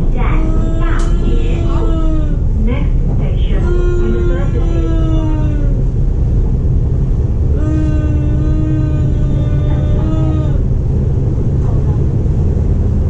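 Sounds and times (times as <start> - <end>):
electric train low rumble: 0.0 - 13.0.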